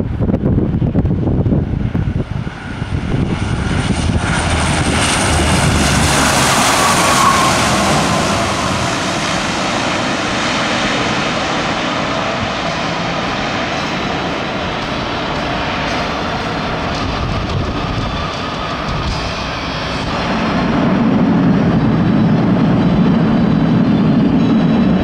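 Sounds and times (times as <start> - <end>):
turboprop aircraft droning: 0.0 - 25.0.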